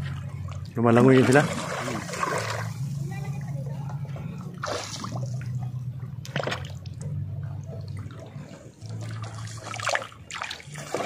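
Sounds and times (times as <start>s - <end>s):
water splashing and dripping: 0.0s - 3.6s, 4.3s - 11.0s
steady low hum: 0.0s - 11.0s.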